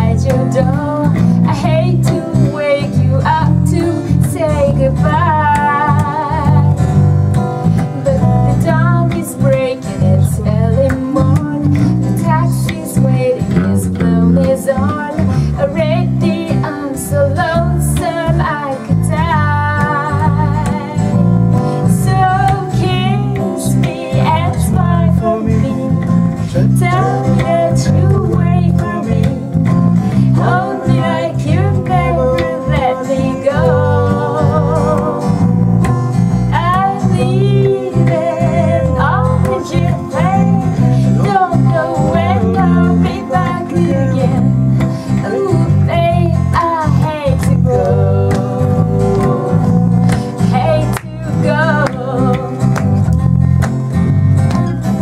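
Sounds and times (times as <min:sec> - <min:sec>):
woman singing: 0:00.0 - 0:06.8, 0:07.8 - 0:21.2, 0:21.8 - 0:35.5, 0:36.5 - 0:53.1
acoustic guitar strumming: 0:00.0 - 0:55.0
electric bass: 0:00.0 - 0:55.0.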